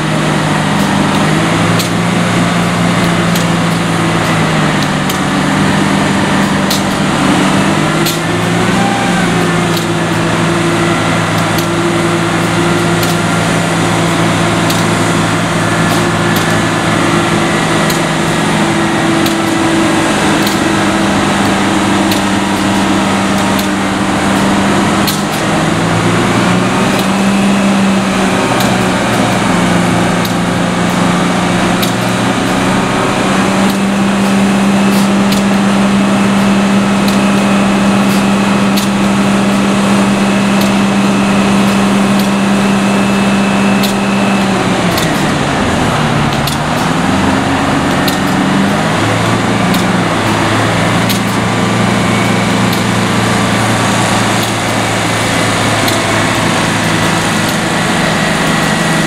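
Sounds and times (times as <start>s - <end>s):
crane diesel engine running: 0.0s - 59.0s.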